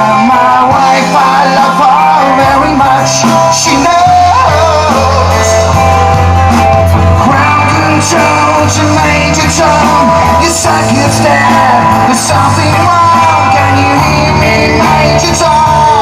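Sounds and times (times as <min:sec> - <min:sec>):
live rock and roll band: 0:00.0 - 0:16.0.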